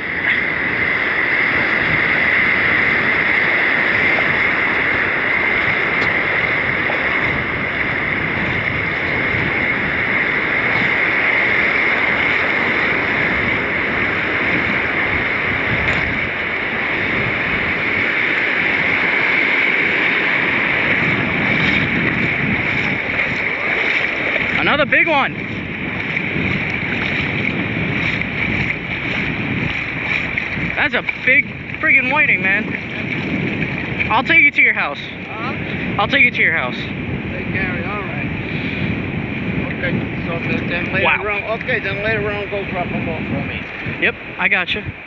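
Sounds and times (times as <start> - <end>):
ocean surf washing: 0.0 - 45.0
wind on microphone: 0.0 - 45.0.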